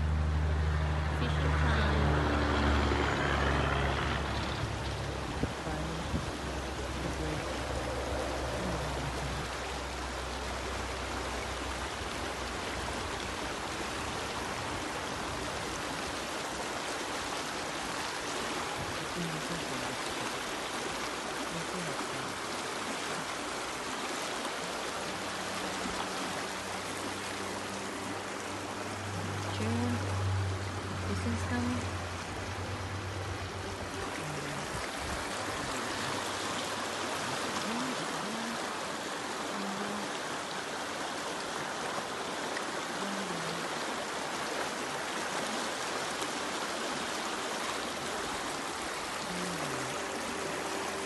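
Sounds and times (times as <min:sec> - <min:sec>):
river flowing over rocks: 0:00.0 - 0:51.0.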